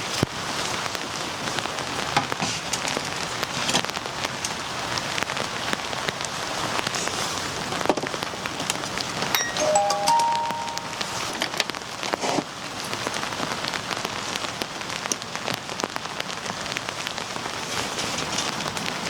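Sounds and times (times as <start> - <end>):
raindrops tapping on surface: 0.0 - 9.4, 11.3 - 19.0
steady rain hiss: 0.0 - 19.0.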